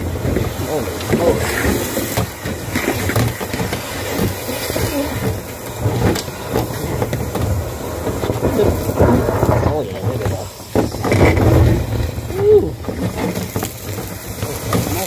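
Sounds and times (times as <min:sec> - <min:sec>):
extraction machine suction rushing: 0:00.0 - 0:15.0
vacuum hose rubbing and knocking: 0:00.0 - 0:15.0.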